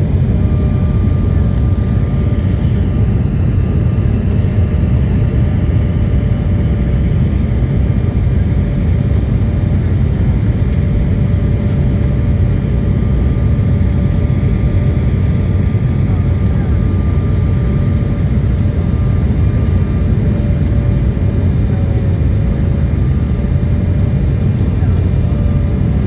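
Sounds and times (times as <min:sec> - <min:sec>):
jet engine whine: 0:00.0 - 0:26.0
jet engines deep rumble: 0:00.0 - 0:26.0.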